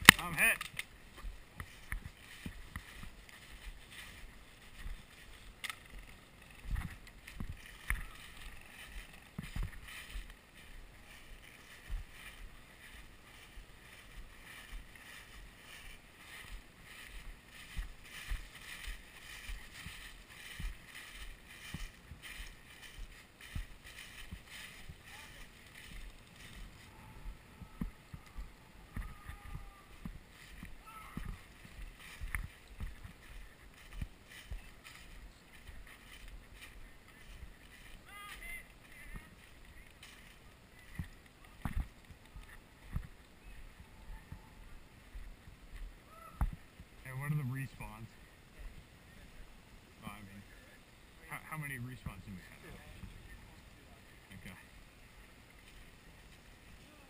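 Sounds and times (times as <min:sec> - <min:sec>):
footsteps crunching dry leaves: 0:00.0 - 0:57.0.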